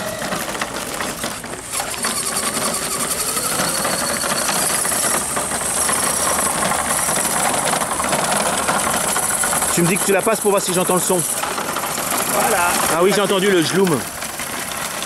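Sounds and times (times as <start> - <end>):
model truck motor whirring: 0.0 - 15.0.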